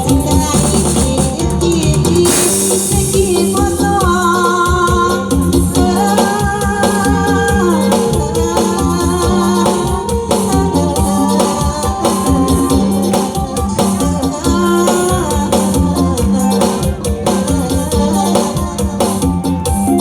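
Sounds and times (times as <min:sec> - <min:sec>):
drum kit beat: 0:00.0 - 0:20.0
live band music: 0:00.0 - 0:20.0
person singing: 0:00.0 - 0:20.0.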